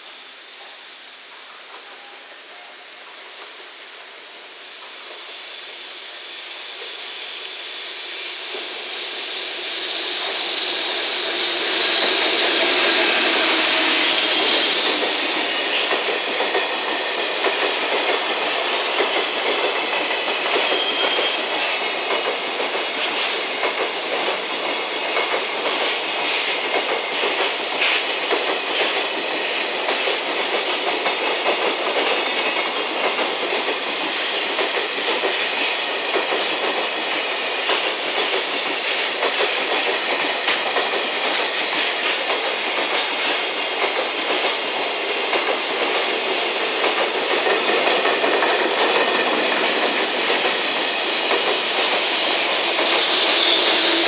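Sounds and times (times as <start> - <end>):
electric locomotive: 0.0 - 54.0.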